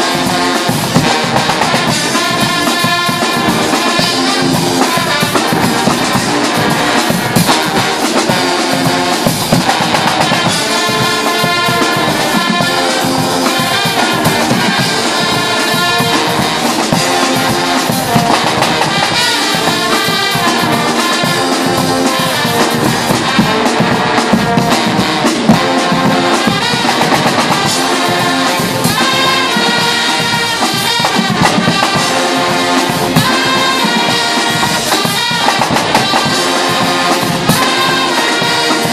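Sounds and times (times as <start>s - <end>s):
bass drums snare and cymbals: 0.0s - 38.9s
brass band playing loudly: 0.0s - 38.9s.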